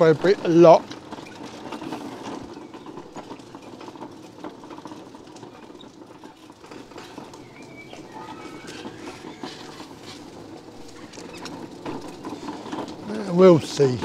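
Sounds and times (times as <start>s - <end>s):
mobility scooter electric drive: 0.0s - 14.0s.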